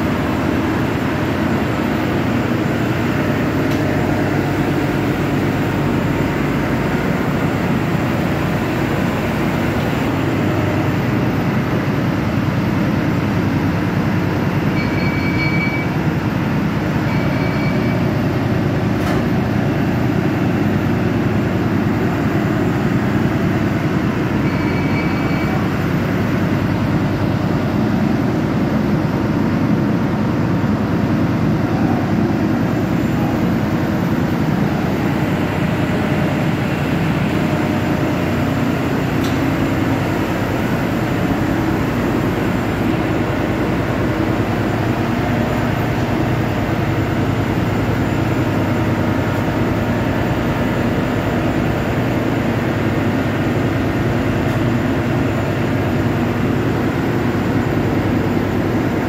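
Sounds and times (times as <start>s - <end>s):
loud machinery drone: 0.0s - 59.0s.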